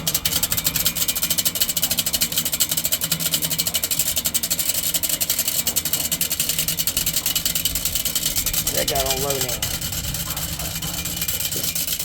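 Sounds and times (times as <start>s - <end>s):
fan motor ticking rattle: 0.0s - 12.0s.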